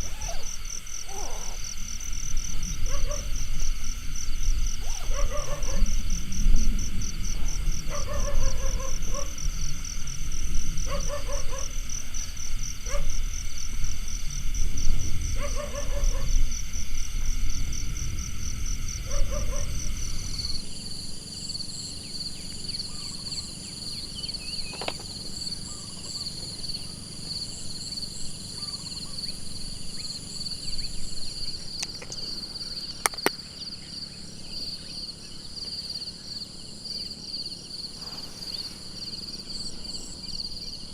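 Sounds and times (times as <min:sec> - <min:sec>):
insects trilling: 0:00.0 - 0:40.9
low rumbling background: 0:00.0 - 0:40.9.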